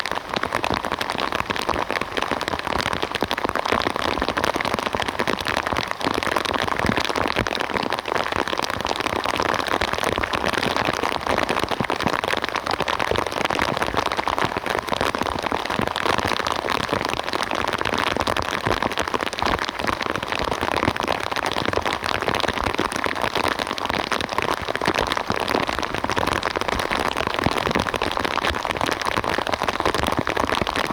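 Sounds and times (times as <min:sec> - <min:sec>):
steady rain falling: 0:00.0 - 0:30.9.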